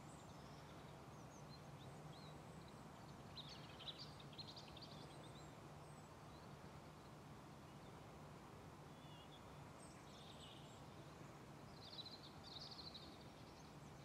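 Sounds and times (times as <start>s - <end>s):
small birds chirping: 0.0s - 7.1s, 9.0s - 14.0s.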